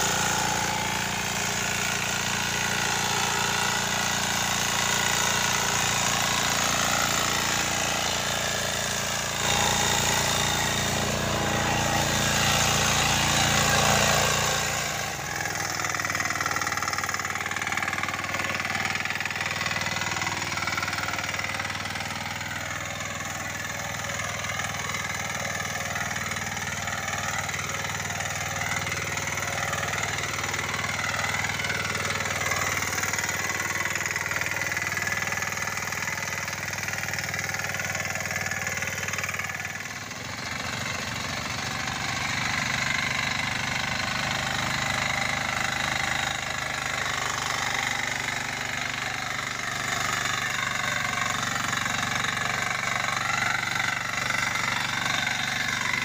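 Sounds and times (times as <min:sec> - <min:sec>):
diesel engine running: 0:00.0 - 0:56.0
rotary tines tilling soil: 0:00.0 - 0:56.0.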